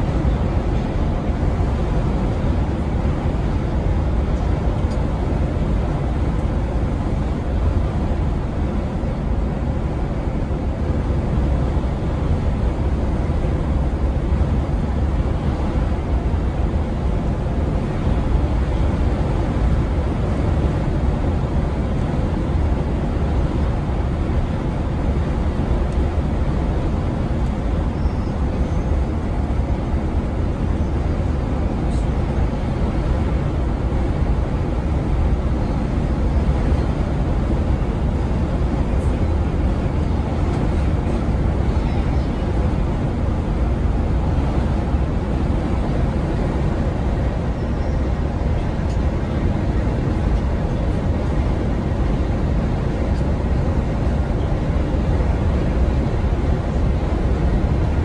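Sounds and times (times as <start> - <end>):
coach engine and road drone: 0.0 - 58.0.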